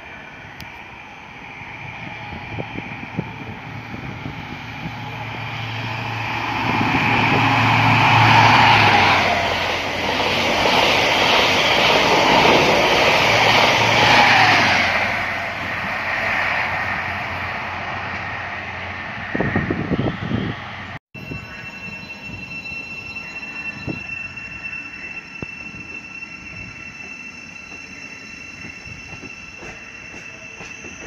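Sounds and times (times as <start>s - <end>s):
train rushing past: 0.0s - 31.0s.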